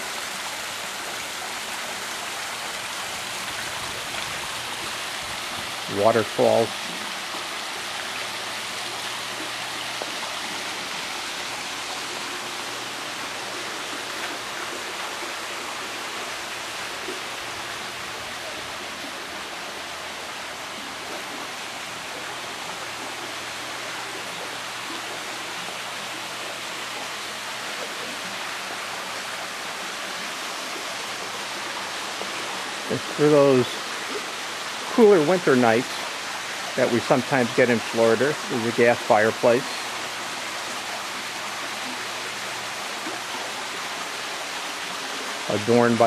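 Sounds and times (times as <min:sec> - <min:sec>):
waterfall splashing: 0:00.0 - 0:46.0.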